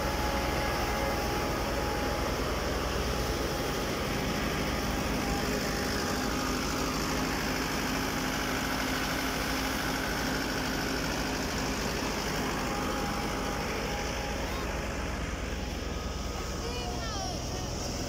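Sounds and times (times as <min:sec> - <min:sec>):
tractor engine and thresher drone: 0:00.0 - 0:18.0.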